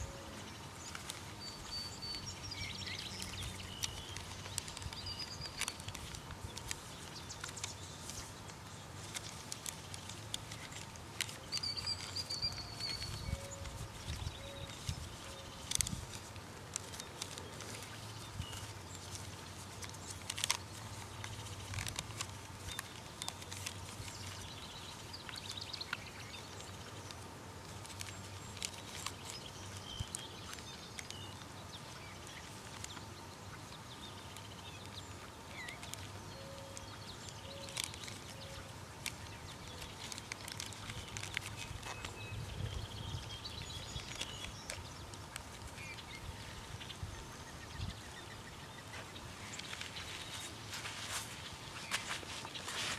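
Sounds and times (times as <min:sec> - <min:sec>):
small clicks and ticks: 0:00.4 - 0:47.0, 0:47.6 - 0:52.9.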